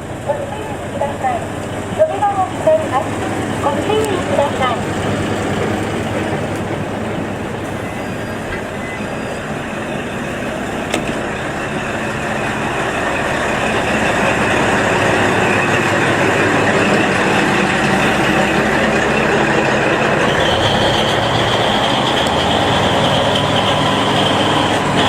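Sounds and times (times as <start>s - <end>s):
diesel railcar engine running: 0.0s - 25.0s.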